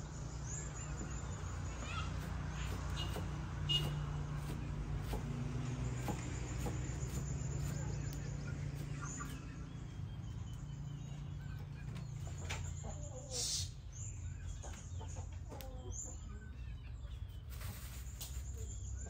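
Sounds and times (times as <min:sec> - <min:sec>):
chickens clucking: 0:00.5 - 0:19.0.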